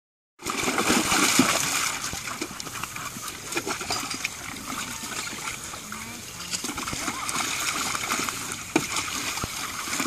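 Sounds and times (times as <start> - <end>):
dogs splashing in water: 0.4 - 10.0.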